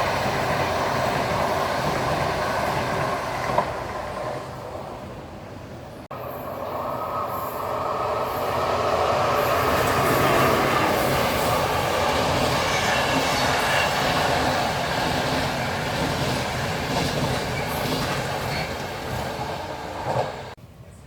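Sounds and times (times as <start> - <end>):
wheels clickety-clack on rails: 0.0 - 4.4, 7.8 - 20.6
train running past: 0.0 - 20.6.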